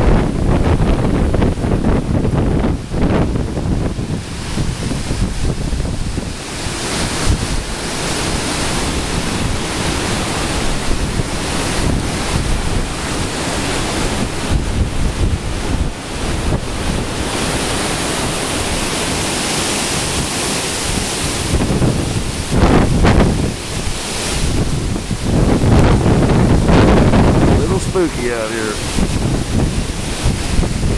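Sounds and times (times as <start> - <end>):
storm wind gusting through trees: 0.0 - 30.9
wind buffeting microphone: 0.0 - 30.9.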